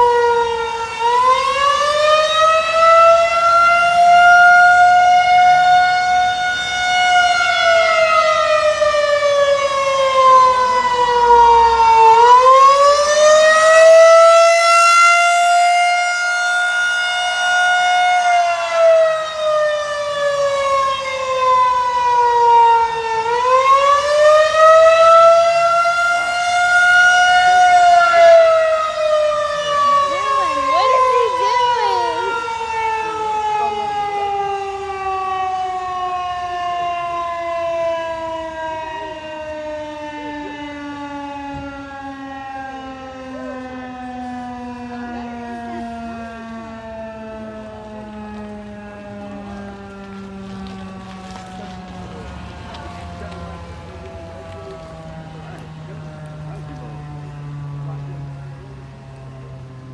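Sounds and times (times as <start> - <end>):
outdoor warning siren wailing: 0.0 - 59.9.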